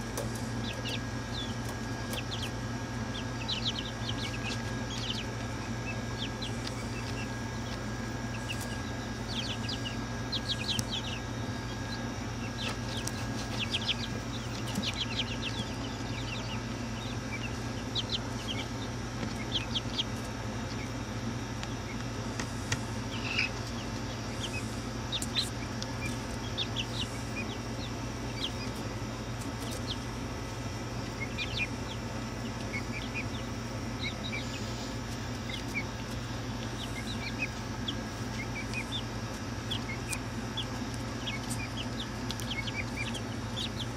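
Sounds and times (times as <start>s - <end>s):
chicks peeping: 0.0s - 43.9s
steady low hum: 0.0s - 43.9s.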